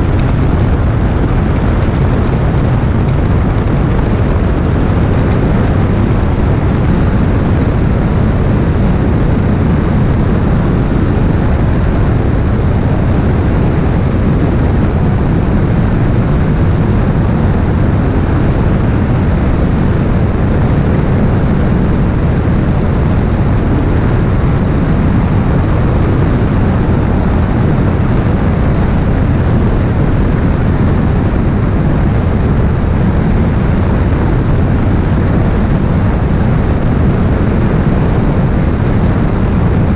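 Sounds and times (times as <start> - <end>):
airplane engine and propeller roaring: 0.0 - 39.9.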